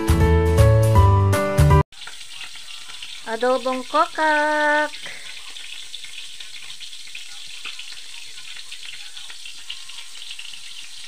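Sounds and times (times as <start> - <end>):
sauce sizzling in a metal pan: 1.9 - 11.0.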